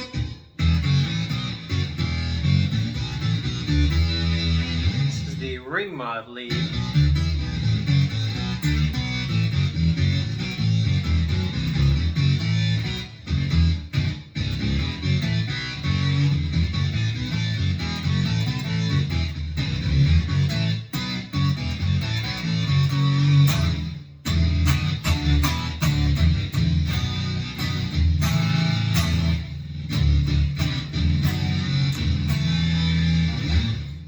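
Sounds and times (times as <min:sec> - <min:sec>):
ring-modulated electric guitar lead: 0:00.0 - 0:34.0.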